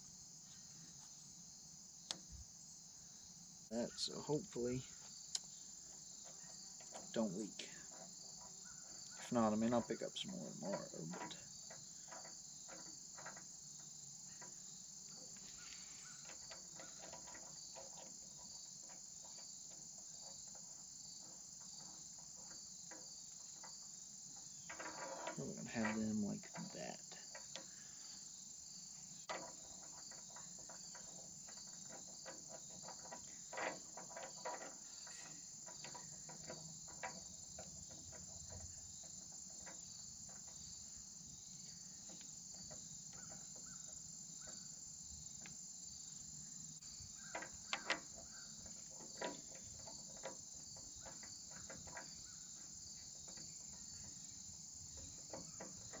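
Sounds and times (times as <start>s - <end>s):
insect chorus: 0.0s - 56.0s.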